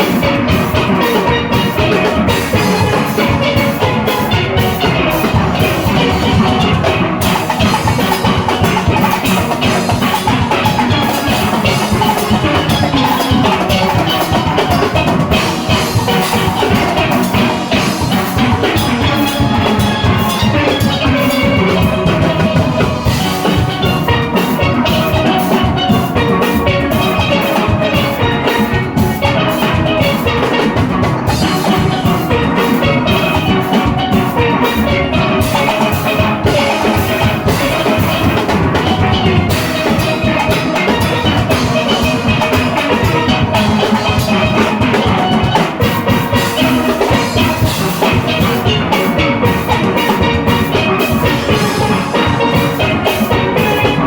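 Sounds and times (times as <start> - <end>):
drum kit and percussion: 0.0 - 54.0
steelpans playing melody: 0.0 - 54.0.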